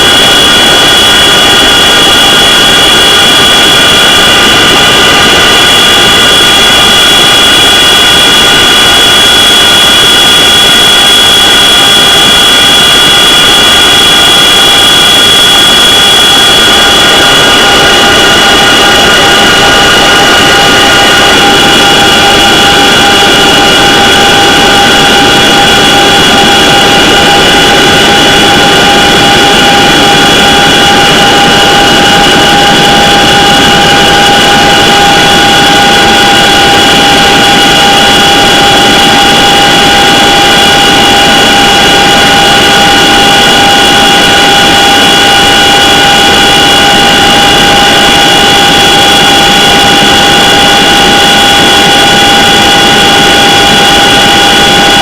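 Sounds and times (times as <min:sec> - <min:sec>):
helicopter engine and rotor rush: 0:00.0 - 0:55.0
helicopter high whine: 0:00.0 - 0:55.0.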